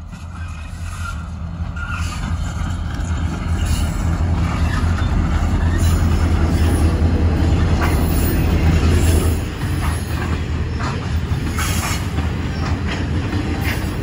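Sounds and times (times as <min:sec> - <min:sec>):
diesel locomotives rumbling: 0:00.0 - 0:14.0.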